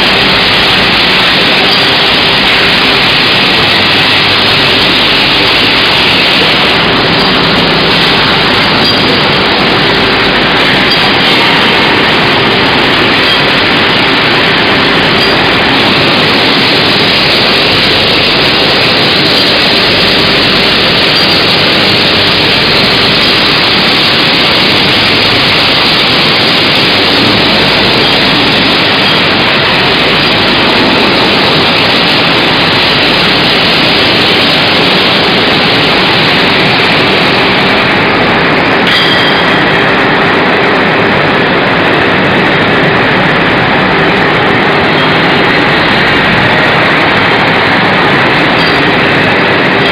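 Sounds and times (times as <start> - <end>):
faint machine whines: 0.0 - 49.9
machine rushing noise: 0.0 - 49.9.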